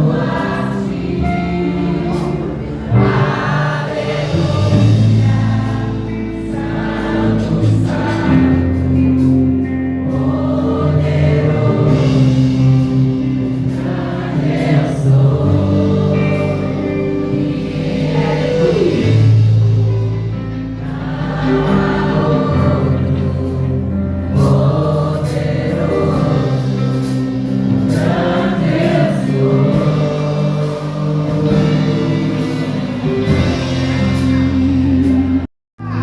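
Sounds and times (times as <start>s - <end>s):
choir singing gospel: 0.0s - 36.0s
held bass instrumental notes: 0.0s - 36.0s.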